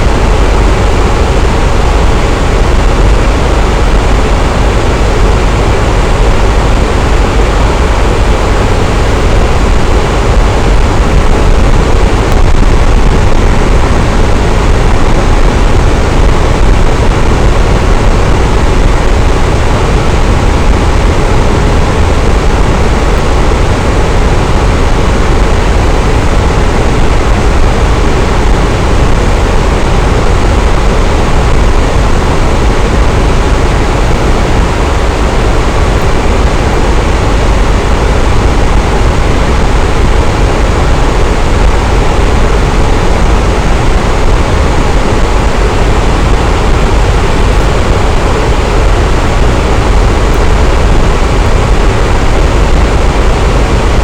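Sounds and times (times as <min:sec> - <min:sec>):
fan running: 0:00.0 - 0:54.0.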